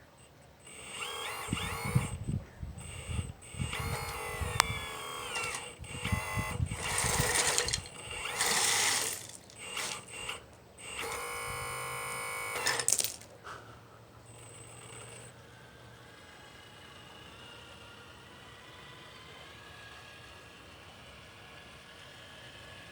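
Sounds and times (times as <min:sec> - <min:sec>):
electric motor and pump whirring: 0:00.0 - 0:13.4, 0:14.3 - 0:22.8.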